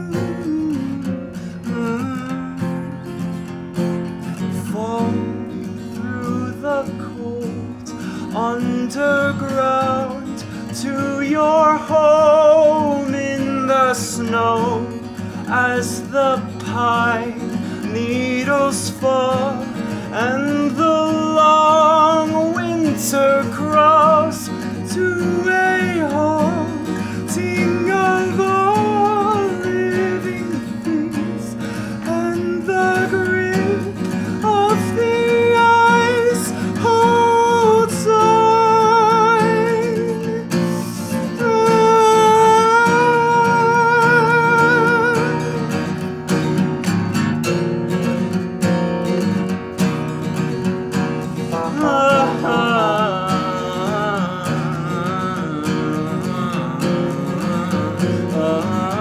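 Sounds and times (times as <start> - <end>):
man singing with vibrato: 0.0 - 3.4, 4.2 - 46.4, 51.2 - 59.0
acoustic guitar: 0.0 - 59.0.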